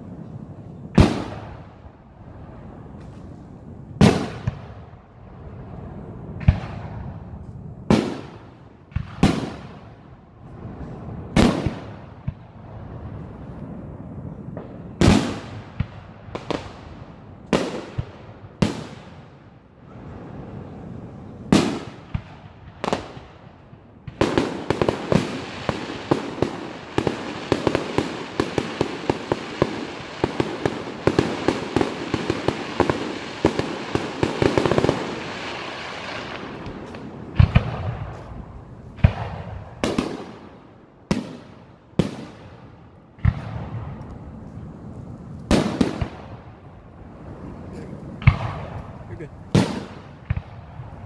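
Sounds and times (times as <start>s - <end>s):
fireworks crackling pops: 0.9s - 2.0s, 2.8s - 5.2s, 6.3s - 13.8s, 14.5s - 20.2s, 21.5s - 51.0s.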